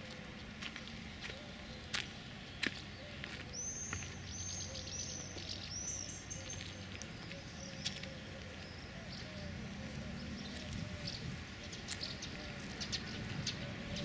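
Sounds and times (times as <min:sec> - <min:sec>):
birds chirping: 0:00.0 - 0:14.0
low outdoor background: 0:00.0 - 0:14.0.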